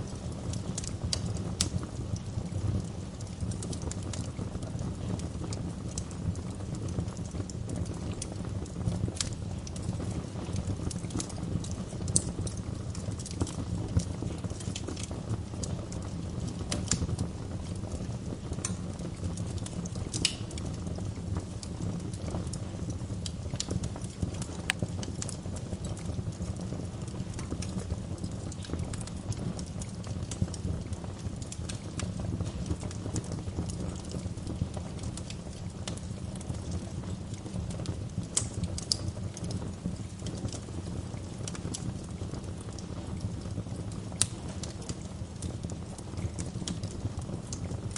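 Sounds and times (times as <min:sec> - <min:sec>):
fire popping and snapping: 0:00.0 - 0:47.9
low rumble of flames: 0:00.0 - 0:47.9.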